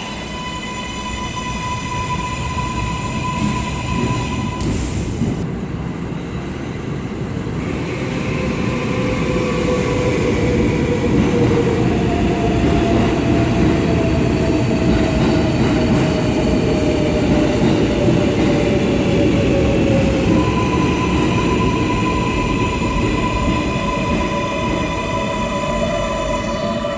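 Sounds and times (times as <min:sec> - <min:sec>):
subway train running: 0:00.0 - 0:26.9.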